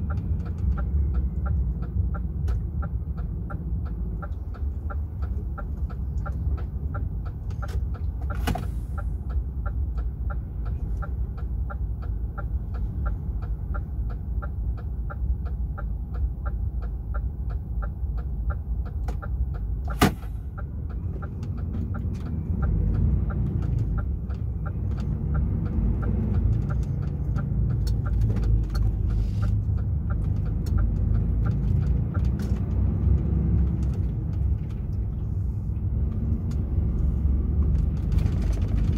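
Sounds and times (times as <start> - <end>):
truck engine rumble: 0.0 - 38.9
turn indicator ticking: 0.0 - 38.9.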